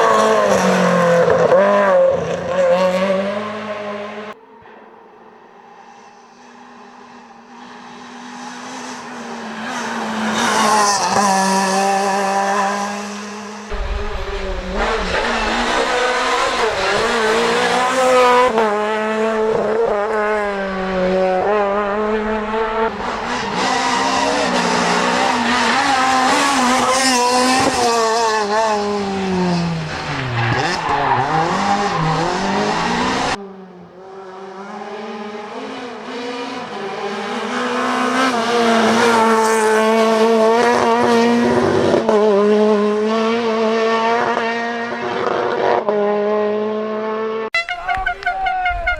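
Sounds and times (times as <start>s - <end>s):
rally car engine revving: 0.0s - 4.4s, 6.5s - 47.5s.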